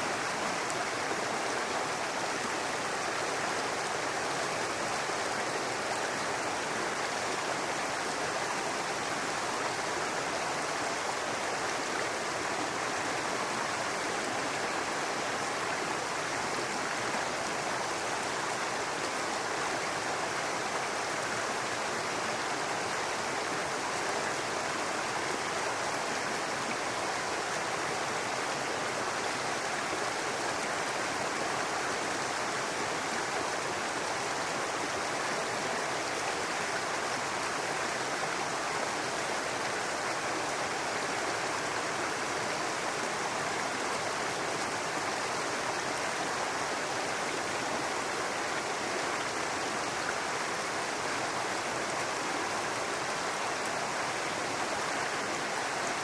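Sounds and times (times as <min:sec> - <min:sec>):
brook water rushing over rocks: 0:00.0 - 0:56.0.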